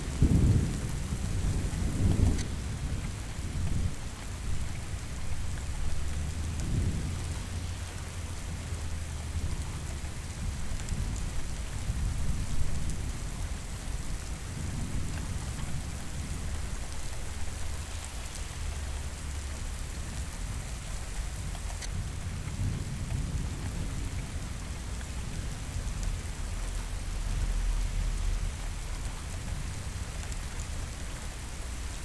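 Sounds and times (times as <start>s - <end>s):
low rolling thunder: 0.0s - 31.9s
steady rain falling: 0.0s - 32.0s.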